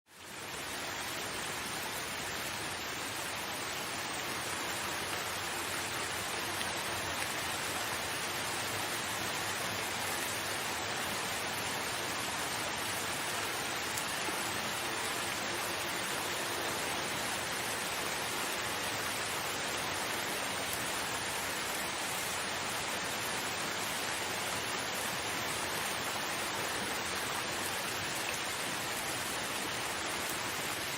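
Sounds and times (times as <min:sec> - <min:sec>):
steady rain: 0:00.1 - 0:30.9.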